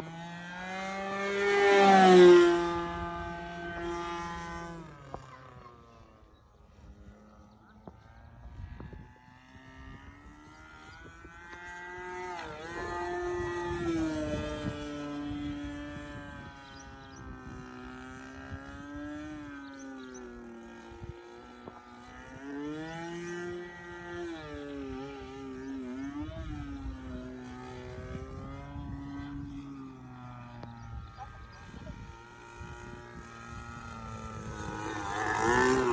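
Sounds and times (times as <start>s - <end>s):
model plane engine running: 0.0s - 35.9s.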